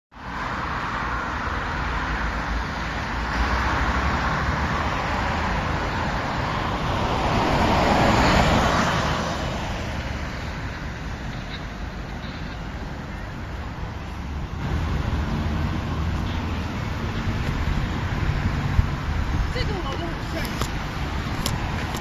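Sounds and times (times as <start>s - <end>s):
road traffic: 0.1s - 22.0s
vehicle passing close: 1.8s - 22.0s.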